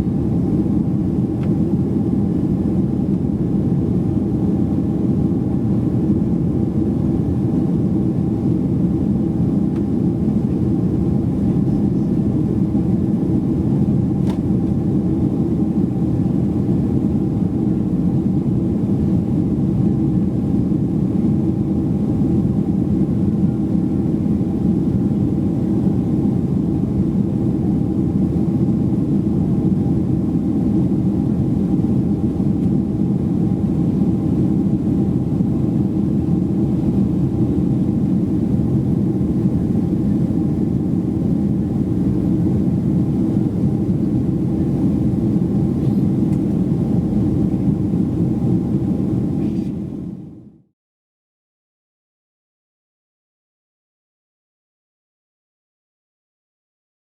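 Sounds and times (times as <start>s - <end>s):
jet airliner cabin drone: 0.0s - 50.7s.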